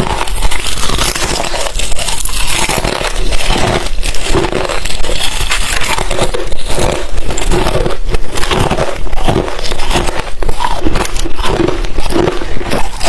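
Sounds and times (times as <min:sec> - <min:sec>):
ice being chewed: 0:00.0 - 0:13.0.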